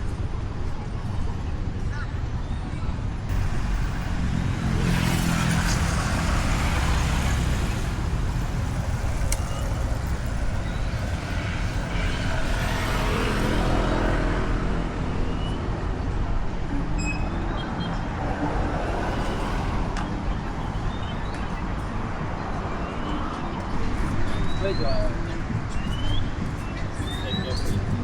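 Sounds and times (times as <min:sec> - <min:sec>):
vehicles passing close by: 0:03.2 - 0:28.0.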